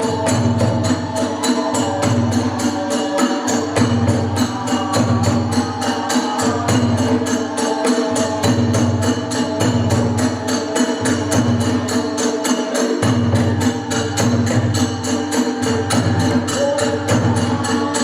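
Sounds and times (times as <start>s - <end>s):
drums: 0.0s - 18.0s
hand cymbals clashing: 0.0s - 18.0s.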